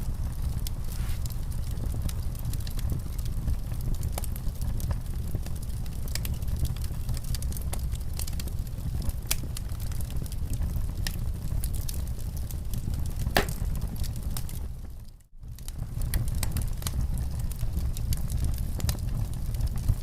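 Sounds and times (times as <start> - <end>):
low rumble of fire: 0.0 - 20.0
wood fire crackling and popping: 0.0 - 20.0.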